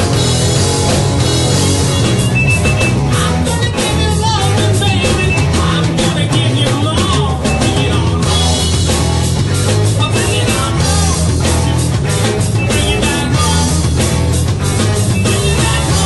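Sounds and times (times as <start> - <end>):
drums: 0.0 - 16.0
electric guitar: 0.0 - 16.0
rock band playing loudly: 0.0 - 16.0.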